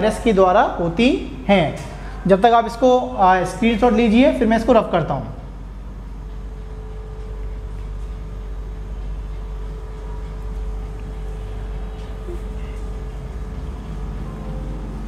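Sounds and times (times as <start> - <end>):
faint even hum: 0.0 - 15.0.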